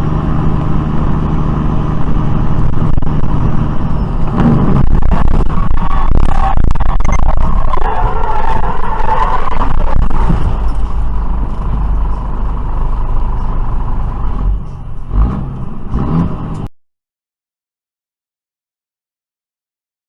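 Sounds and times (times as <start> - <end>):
rising tones: 0.0 - 16.6
vehicle engine and road noise: 0.0 - 16.7.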